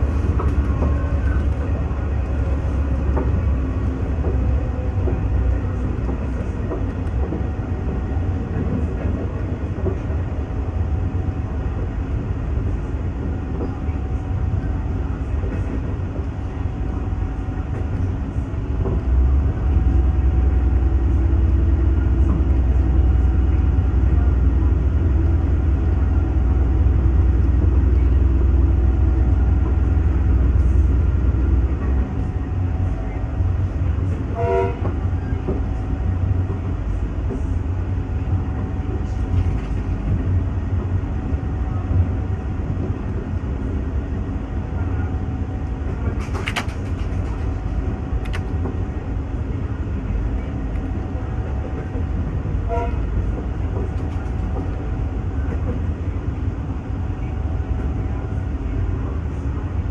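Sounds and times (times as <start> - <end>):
diesel train rumbling: 0.0 - 59.9.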